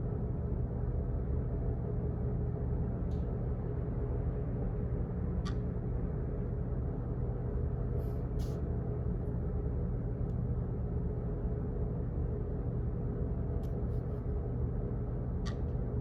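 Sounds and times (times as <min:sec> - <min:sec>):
office background hum: 0:00.0 - 0:16.0.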